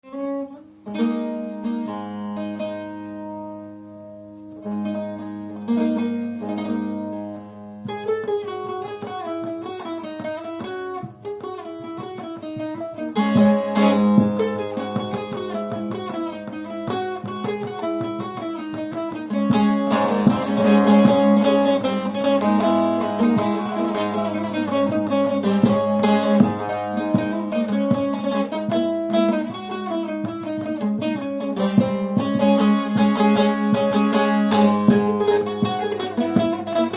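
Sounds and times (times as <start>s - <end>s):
long-necked lute played solo: 0.0s - 36.9s.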